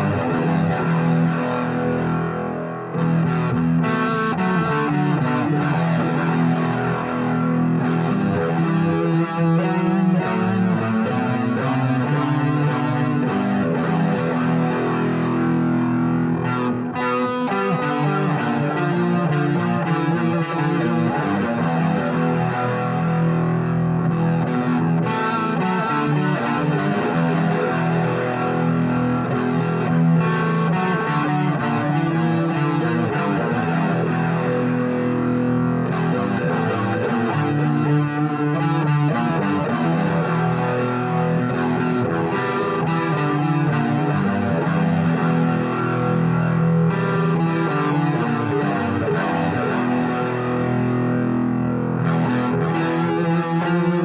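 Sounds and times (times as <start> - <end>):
fingerpicked electric guitar: 0.0 - 54.0.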